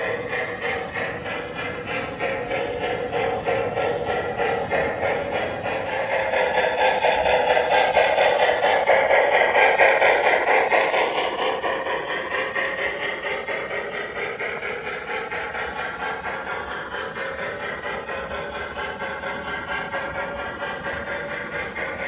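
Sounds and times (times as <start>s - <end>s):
model steam locomotive chuffing: 0.0s - 22.0s.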